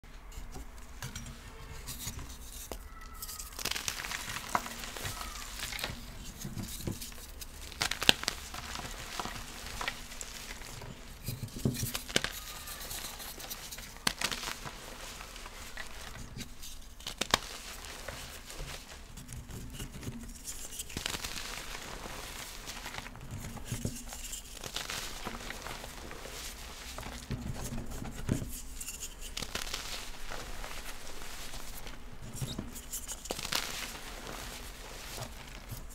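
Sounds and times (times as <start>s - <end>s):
chalk crunching and crumbling: 1.2s - 35.9s
sharp cracks of chalk: 1.7s - 35.9s.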